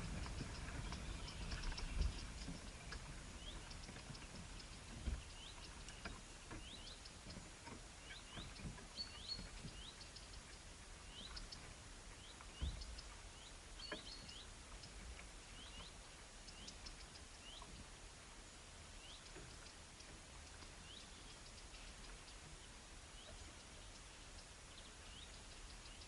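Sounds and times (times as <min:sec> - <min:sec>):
birds chirping: 0:00.1 - 0:17.9, 0:19.0 - 0:26.0.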